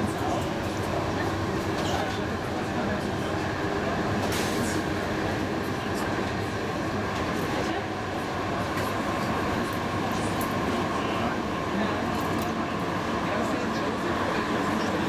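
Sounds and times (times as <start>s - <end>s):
tram rumbling along track: 0.0s - 15.0s.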